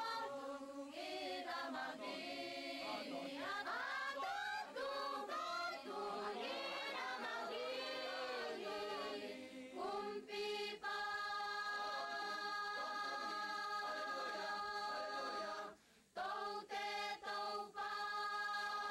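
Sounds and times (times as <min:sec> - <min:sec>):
choir singing a hymn: 0:00.0 - 0:18.9.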